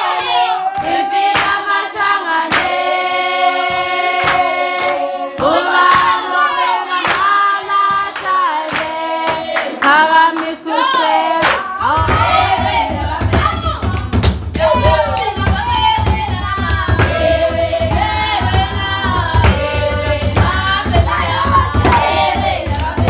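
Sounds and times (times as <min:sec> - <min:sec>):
women singing together: 0:00.0 - 0:23.0
hand claps: 0:00.1 - 0:01.9, 0:02.5 - 0:02.8, 0:03.6 - 0:06.3, 0:07.0 - 0:12.4, 0:13.3 - 0:23.0.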